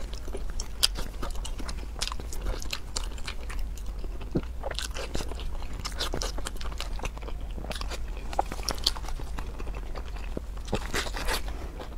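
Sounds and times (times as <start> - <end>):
steady low hum: 0.0 - 11.9
wet chewing and crunching: 0.0 - 11.9.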